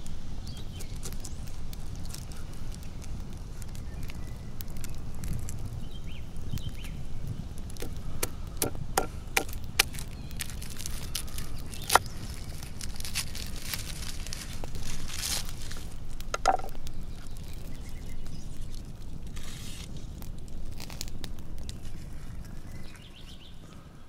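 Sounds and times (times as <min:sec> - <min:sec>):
campfire crackling: 0:00.0 - 0:24.0
low steady rumble: 0:00.0 - 0:24.0.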